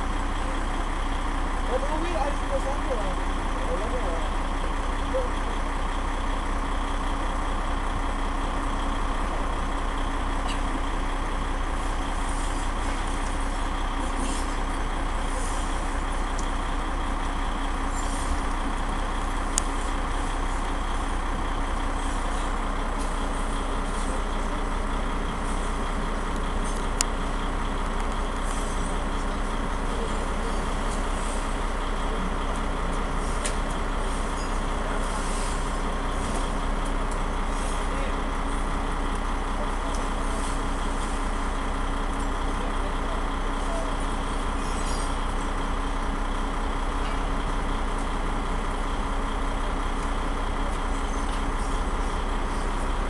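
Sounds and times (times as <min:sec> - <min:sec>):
city street traffic: 0:00.0 - 0:53.0.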